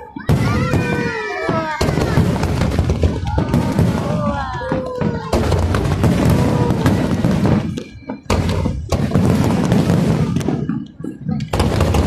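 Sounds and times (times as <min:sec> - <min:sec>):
falling firework whistle: 0:00.0 - 0:10.8
fireworks bursting with bangs: 0:00.0 - 0:12.0.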